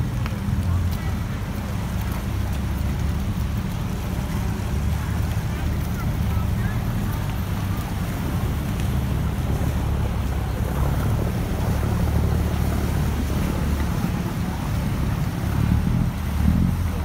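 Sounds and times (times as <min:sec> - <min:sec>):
boat engine rumble: 0:00.0 - 0:17.0
water churning: 0:00.0 - 0:17.0.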